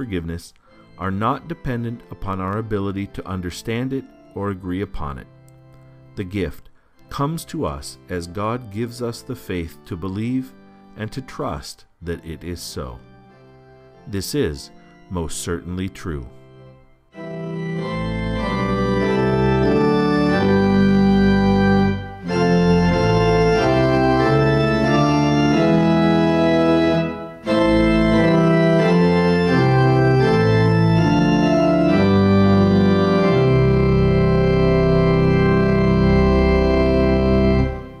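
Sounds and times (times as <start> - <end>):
organ playing sustained chords: 0.0 - 38.0.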